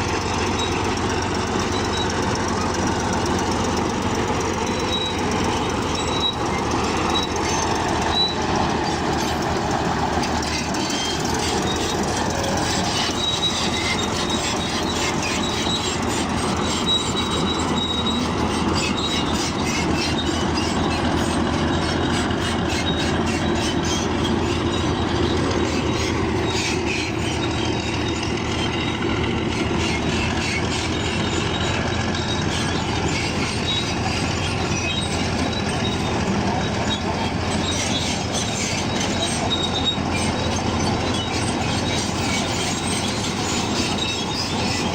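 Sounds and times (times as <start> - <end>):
crawler tracks clanking and squealing: 0.0 - 44.9
diesel engine under load: 0.0 - 44.9
short high squeaks: 0.0 - 44.9.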